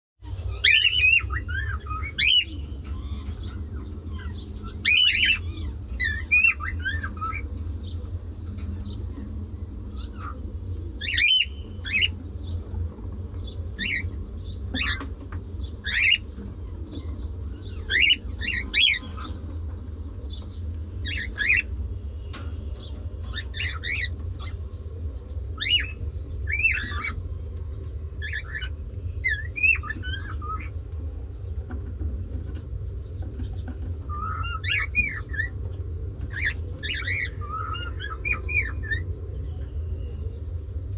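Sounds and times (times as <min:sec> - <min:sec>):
steady low hum: 0:00.2 - 0:40.9
cockatiels chirping and squawking: 0:00.3 - 0:19.6, 0:20.3 - 0:24.7, 0:25.4 - 0:27.2, 0:28.2 - 0:30.8, 0:31.7 - 0:39.1.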